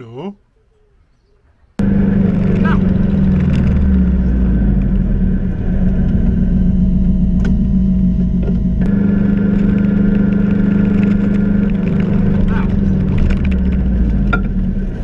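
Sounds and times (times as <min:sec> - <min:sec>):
car engine running: 0:01.8 - 0:15.0
road noise: 0:01.8 - 0:15.0.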